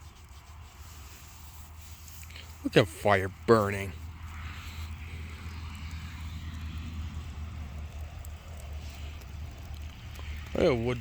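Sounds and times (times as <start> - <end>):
fire crackles: 0.0 - 11.0
bonfire rumble and hiss: 0.1 - 11.0.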